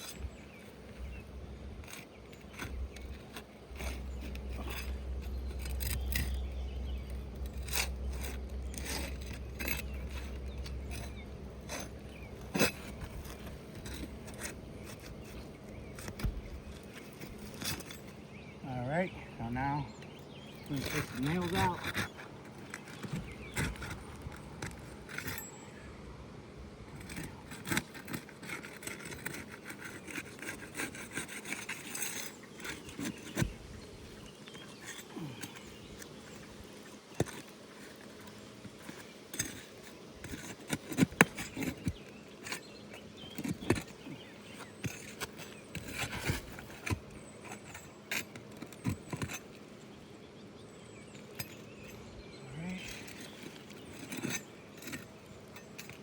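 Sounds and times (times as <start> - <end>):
flat bar scraping under shingles: 0.0 - 18.5, 19.4 - 25.9, 26.9 - 52.0, 52.7 - 56.0.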